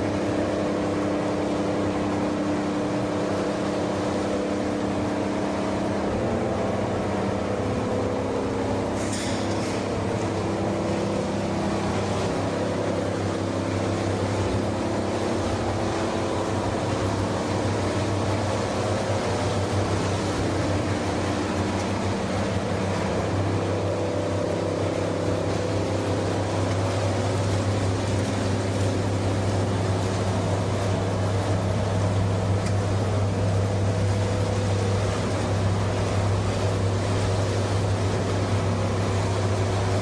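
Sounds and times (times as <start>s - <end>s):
machinery droning with low hum: 0.0s - 40.0s.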